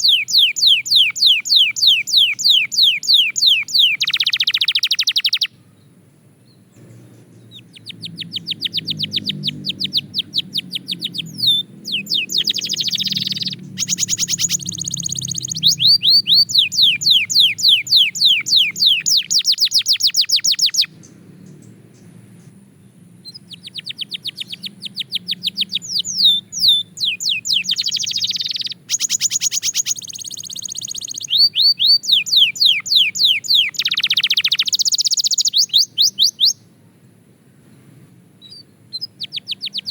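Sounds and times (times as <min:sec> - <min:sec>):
canary singing trills: 0:00.0 - 0:36.8, 0:38.4 - 0:39.9.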